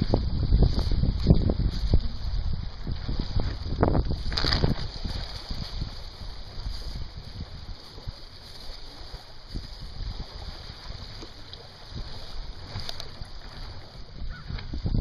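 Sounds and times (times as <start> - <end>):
small waves lapping on stony shore: 0.0 - 15.0
wind buffeting microphone: 0.0 - 15.0.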